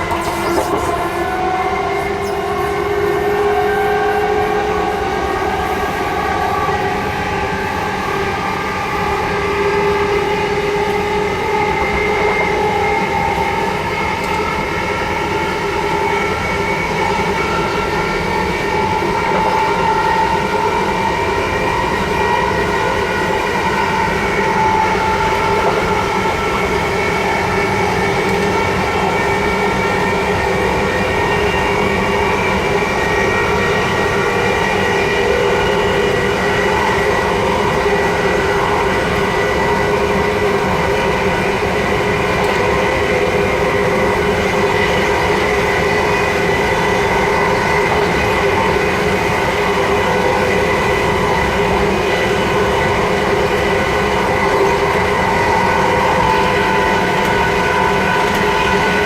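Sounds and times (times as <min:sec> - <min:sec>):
traction motor whine: 0:00.0 - 0:59.0
wheels rumbling on rail: 0:00.0 - 0:59.0.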